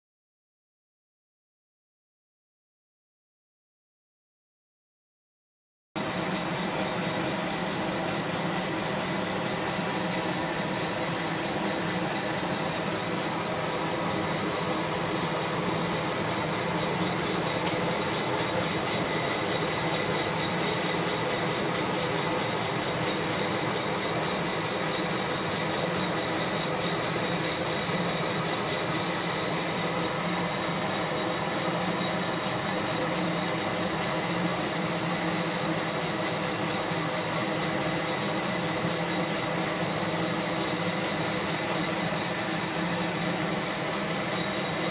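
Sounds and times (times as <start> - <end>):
coffee roaster blower rush: 6.0 - 44.9.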